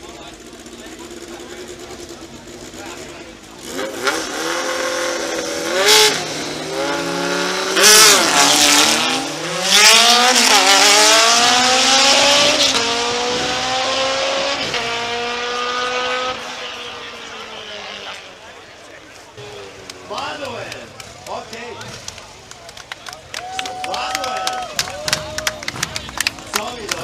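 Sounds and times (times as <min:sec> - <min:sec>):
motorcycles revving and accelerating: 0:00.0 - 0:22.5.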